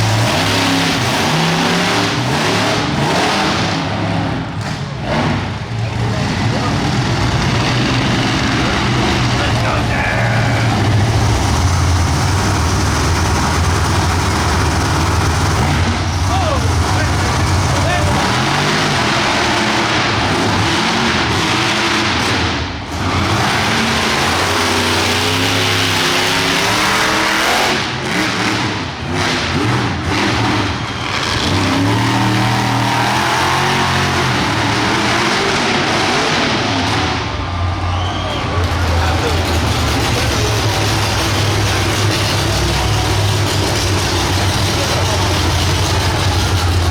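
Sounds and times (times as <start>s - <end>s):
truck engine running loud: 0.0s - 46.9s.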